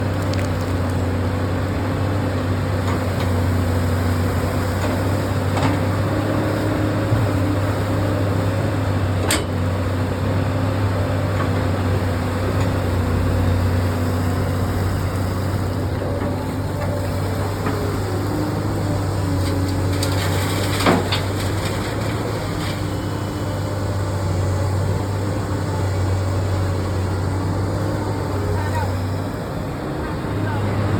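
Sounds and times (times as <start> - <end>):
diesel engine drone: 0.0 - 30.9.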